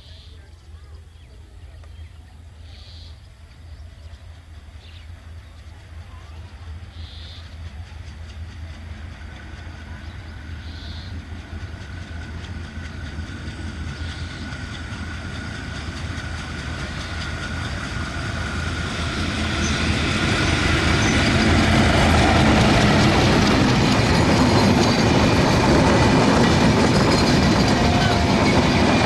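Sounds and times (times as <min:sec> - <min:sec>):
locomotive engine drone: 0:00.0 - 0:29.0
train running noise: 0:00.0 - 0:29.0.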